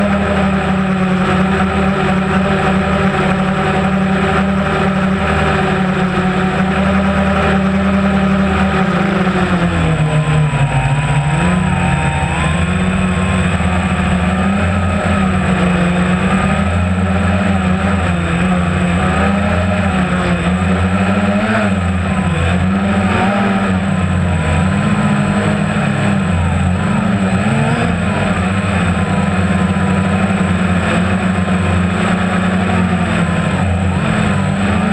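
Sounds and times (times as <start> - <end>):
motorboat engine droning: 0.0 - 34.9.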